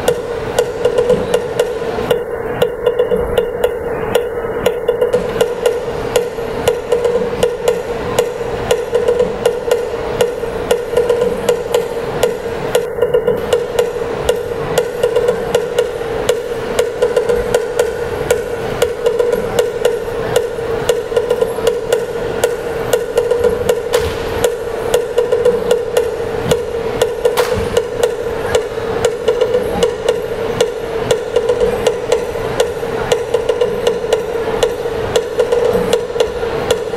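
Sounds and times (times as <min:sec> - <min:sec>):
drum beat: 0:00.0 - 0:36.9
sharp percussion strikes: 0:00.0 - 0:36.9
steady ringing tone: 0:00.0 - 0:36.9.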